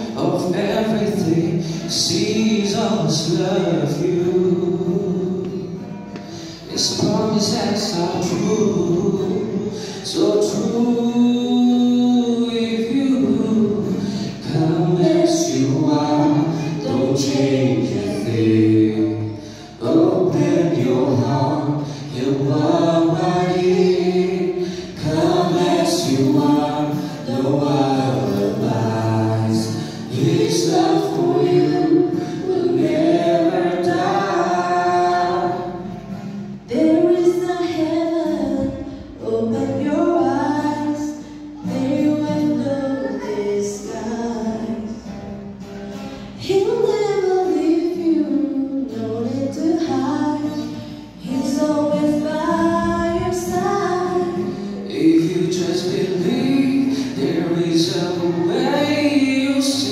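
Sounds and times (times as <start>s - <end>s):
man and woman singing hymn: 0.0s - 45.3s, 46.1s - 59.9s.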